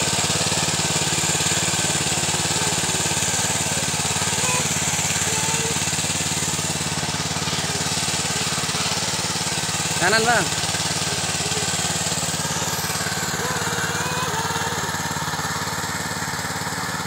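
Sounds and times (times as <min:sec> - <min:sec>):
cultivator engine chugging: 0:00.0 - 0:17.0.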